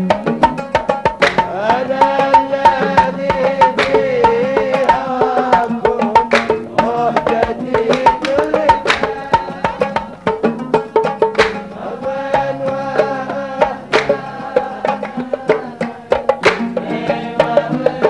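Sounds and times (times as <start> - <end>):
hand drums: 0.0 - 18.0
oud: 0.0 - 18.0
sharp handclaps: 0.1 - 11.8, 13.6 - 16.9.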